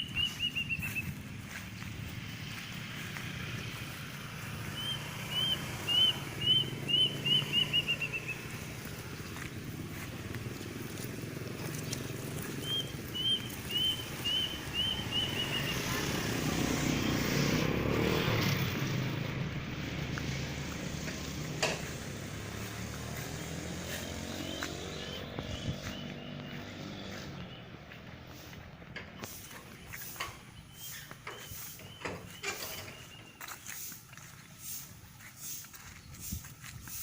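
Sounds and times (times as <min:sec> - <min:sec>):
small bird chirping: 0:00.0 - 0:17.2, 0:23.9 - 0:36.6
motor vehicle passing: 0:00.0 - 0:37.0.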